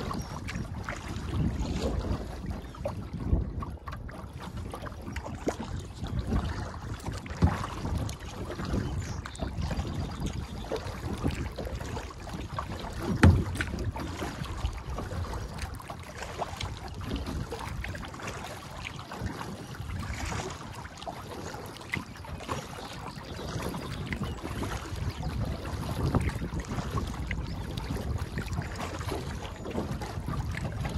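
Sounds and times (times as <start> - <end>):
paddle splashes: 0.0 - 30.9
water slapping against hull: 0.0 - 30.9
wind on microphone: 0.0 - 30.9.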